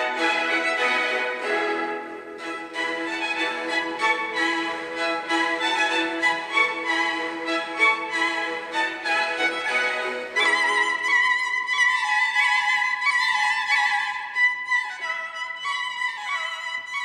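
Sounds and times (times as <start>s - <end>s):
slow violin melody: 0.0s - 17.0s.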